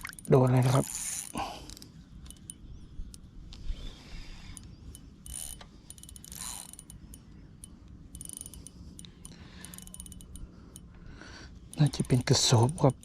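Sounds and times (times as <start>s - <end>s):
fishing reel clicking and whirring: 0.0s - 11.0s, 11.7s - 13.0s.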